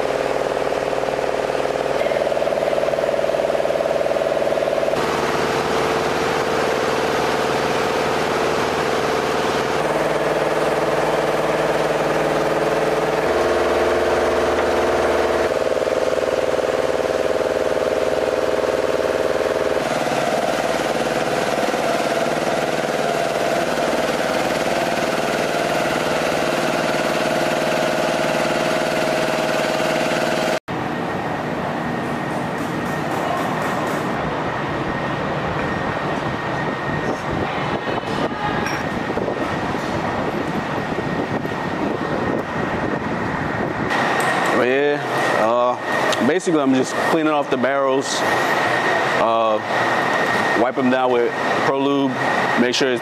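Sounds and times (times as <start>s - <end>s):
idling engine drone: 0.0s - 53.0s.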